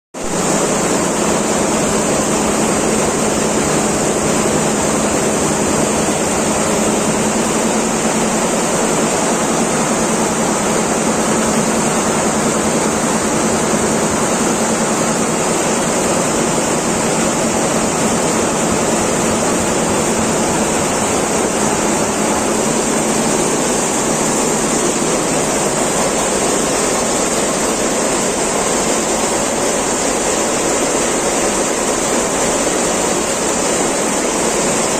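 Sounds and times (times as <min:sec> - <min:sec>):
quilting machine running: 0:00.3 - 0:34.9.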